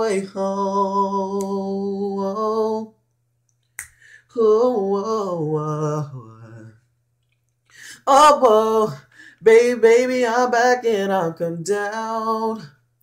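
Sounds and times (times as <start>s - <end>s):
man singing a cappella: 0.0s - 3.1s, 3.8s - 7.0s, 7.8s - 13.0s.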